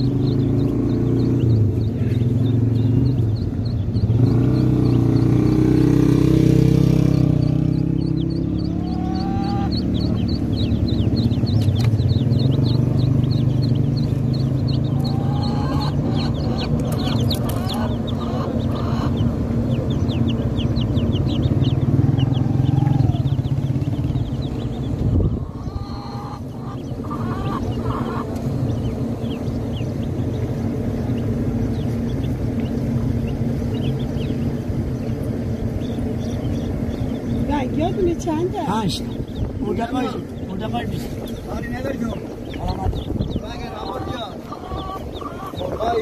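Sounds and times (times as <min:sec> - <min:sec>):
chicks and ducklings peeping: 0:00.0 - 0:46.0
steady low rumble: 0:00.0 - 0:46.0.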